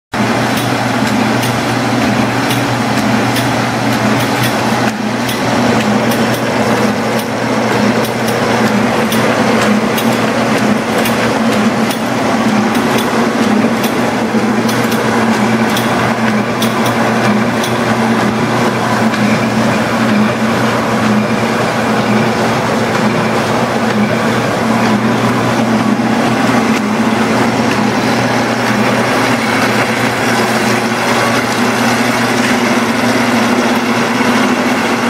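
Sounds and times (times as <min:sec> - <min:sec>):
bag machine humming: 0:00.2 - 0:35.0
machine clicks: 0:00.4 - 0:35.0.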